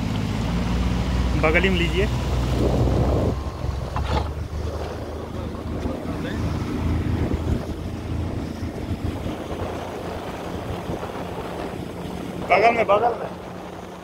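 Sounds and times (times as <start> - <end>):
motorboat engine running: 0.0 - 14.0
wind buffeting microphone: 0.5 - 14.0.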